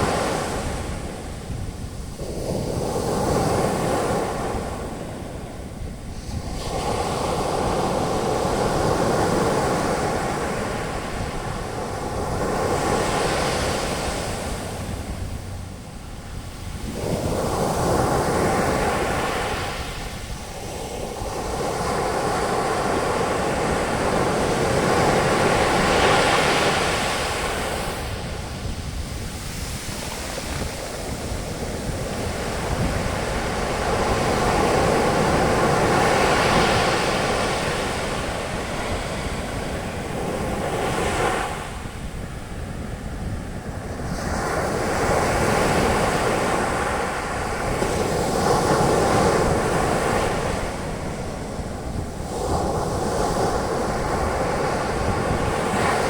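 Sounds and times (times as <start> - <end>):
waves breaking on beach: 0.0 - 56.0.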